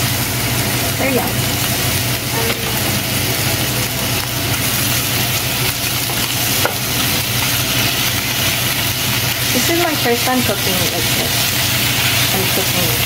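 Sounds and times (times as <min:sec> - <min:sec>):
meat and vegetables sizzling in a pan: 0:00.0 - 0:13.0.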